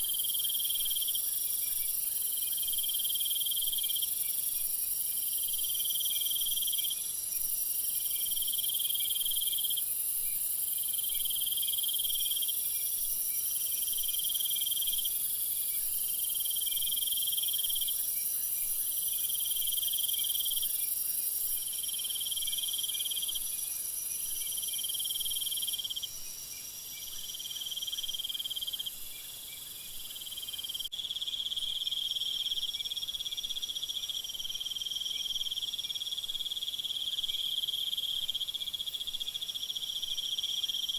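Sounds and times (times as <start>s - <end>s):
high-pitched insect hiss: 0.0s - 40.9s.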